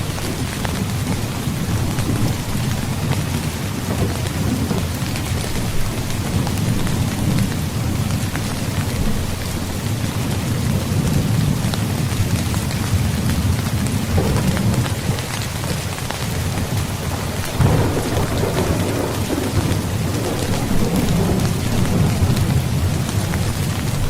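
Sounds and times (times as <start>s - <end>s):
heavy rain falling: 0.0s - 24.0s
rolling thunder: 0.0s - 24.0s.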